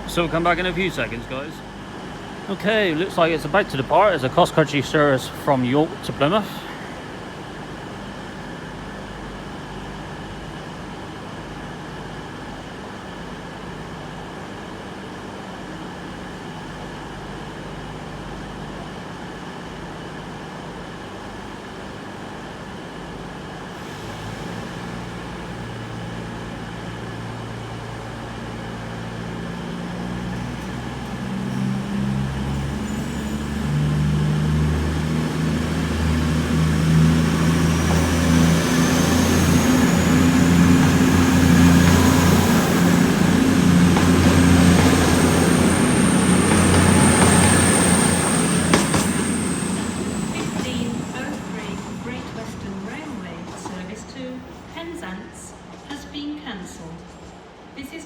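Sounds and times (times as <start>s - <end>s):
train diesel engines idling and powering up: 0.0s - 58.0s.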